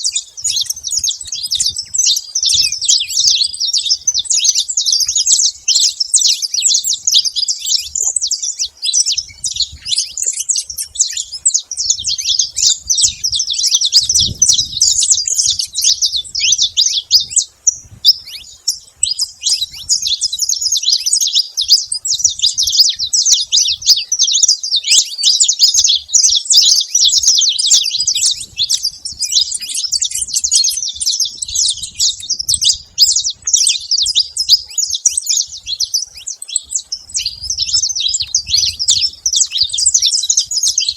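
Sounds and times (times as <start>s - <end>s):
finches chirping and trilling: 0.0s - 40.9s.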